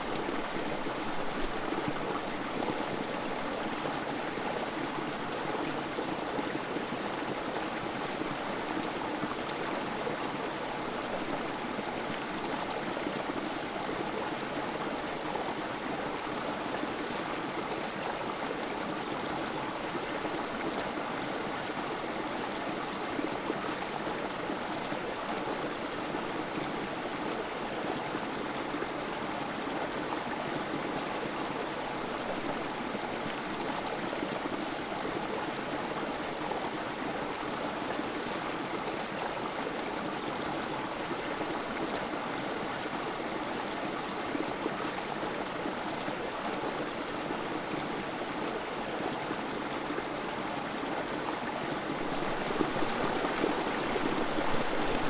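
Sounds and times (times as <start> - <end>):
creek water trickling over rocks: 0.0 - 55.0.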